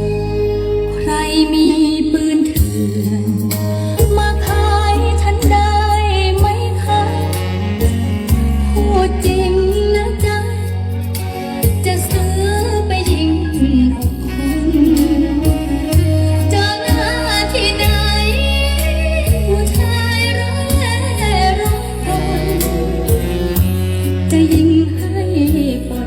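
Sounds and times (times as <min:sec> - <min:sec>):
bass-heavy music over sound system: 0:00.0 - 0:26.0
gliding melodic lead voice: 0:00.0 - 0:26.0.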